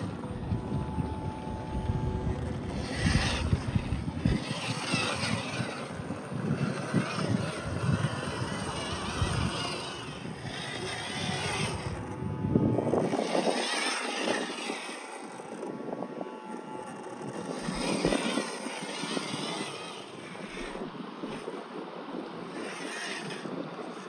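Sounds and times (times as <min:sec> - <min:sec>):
electric motor whining: 0:00.0 - 0:24.0
wind buffeting microphone: 0:00.0 - 0:24.0.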